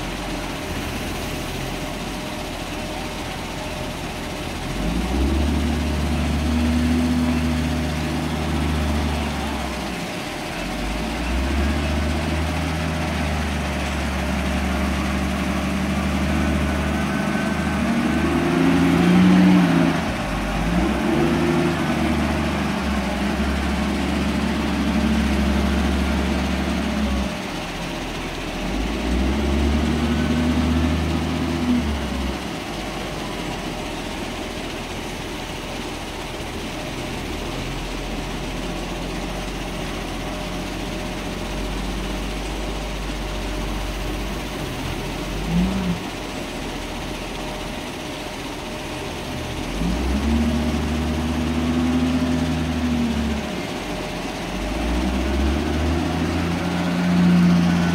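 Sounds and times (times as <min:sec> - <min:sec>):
wheel loader diesel engine: 0:00.0 - 0:57.9.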